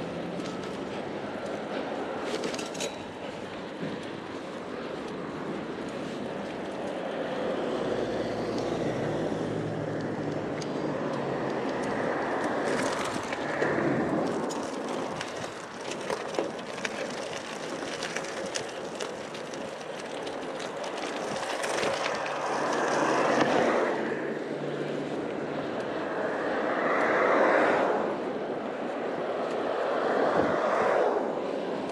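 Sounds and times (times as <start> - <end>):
passing traffic: 0.0 - 31.9
wind and road noise of bicycle: 0.0 - 31.9.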